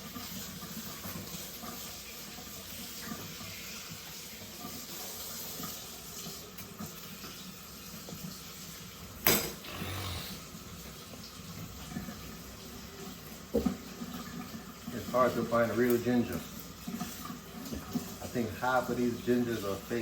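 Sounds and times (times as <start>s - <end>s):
tap water running into sink: 0.0s - 20.0s.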